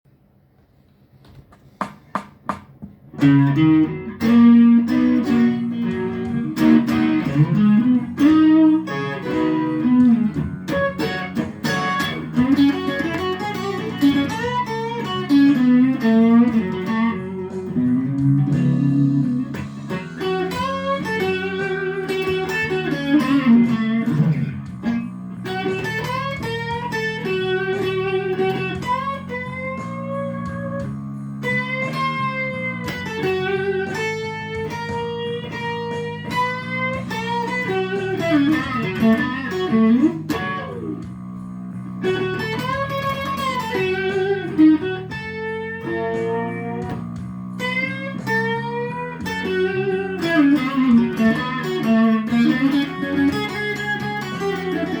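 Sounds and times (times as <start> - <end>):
electric guitar slow blues: 3.2 - 55.0.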